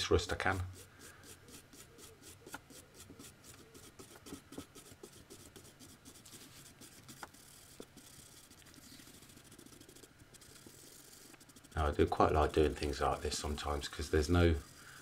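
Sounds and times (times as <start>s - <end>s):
wire brush scratching metal: 0.0s - 15.0s.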